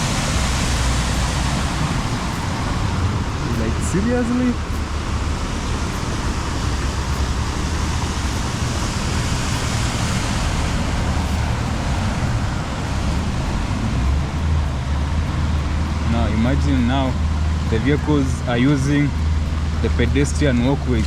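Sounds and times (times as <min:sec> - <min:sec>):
heavy rain and rushing floodwater: 0:00.0 - 0:21.0
vehicle engines running low: 0:00.0 - 0:21.0.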